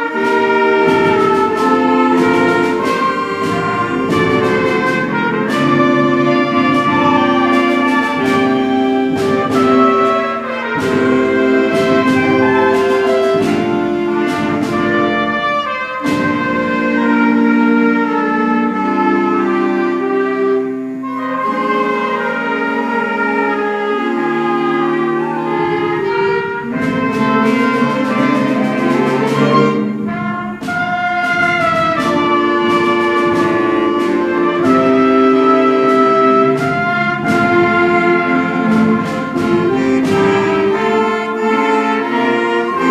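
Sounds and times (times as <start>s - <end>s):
concert band playing: 0.0s - 42.9s.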